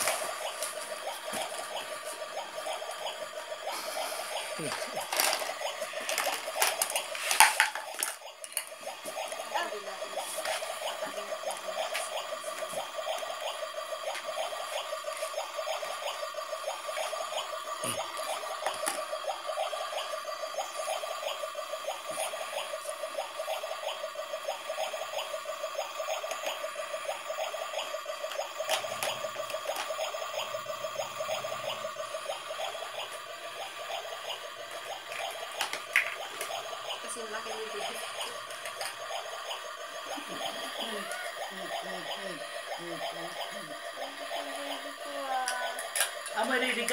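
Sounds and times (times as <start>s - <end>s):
toy stove electronic looping tone: 0.0s - 46.9s.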